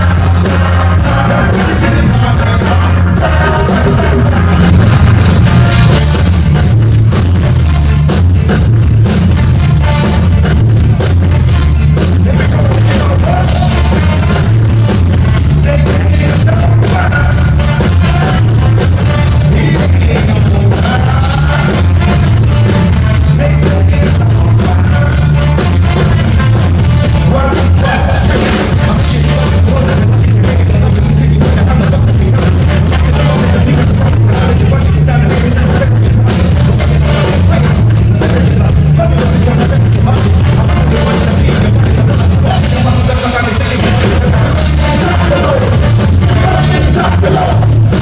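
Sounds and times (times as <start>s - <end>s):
person singing: 0.0s - 6.0s, 12.1s - 14.7s, 15.5s - 48.0s
live rock band playing: 0.0s - 48.0s.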